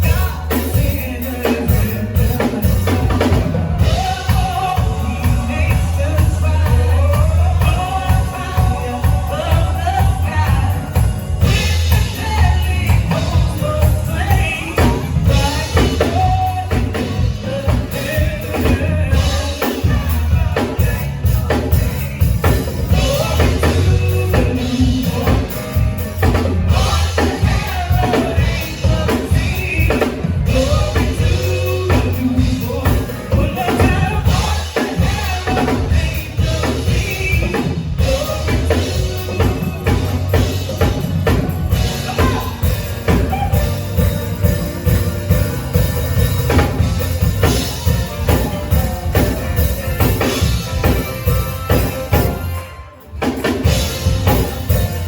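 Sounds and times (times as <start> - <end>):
bass line: 0.0 - 55.0
drum kit: 0.0 - 55.0
person singing: 0.0 - 55.0.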